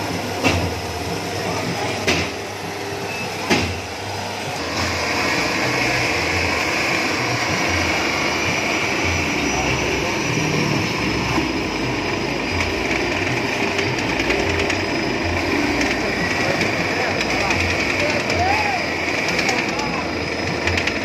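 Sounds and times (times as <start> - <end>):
grating machine grinding with whine: 0.0 - 21.0.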